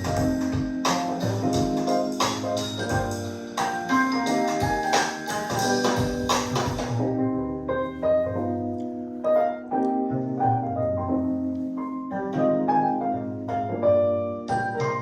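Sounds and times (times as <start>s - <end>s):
piano instrumental music over speakers: 0.0s - 15.0s.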